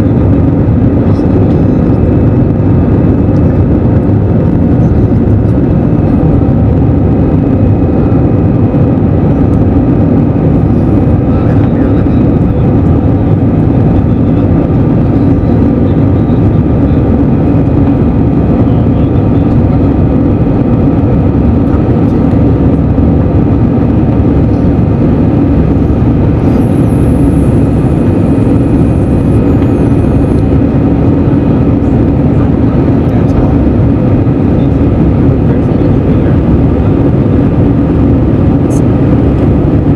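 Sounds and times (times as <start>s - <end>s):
airflow rushing: 0.0s - 39.9s
jet engines at climb power: 0.0s - 39.9s
low cabin hum: 0.0s - 39.9s.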